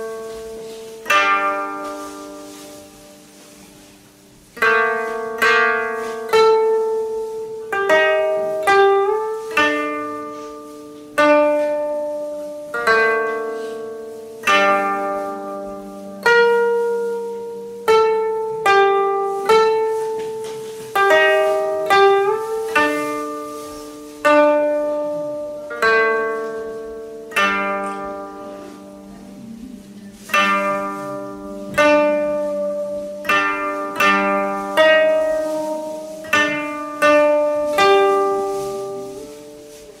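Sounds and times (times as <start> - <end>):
koto notes plucked slowly: 0.0 - 40.0.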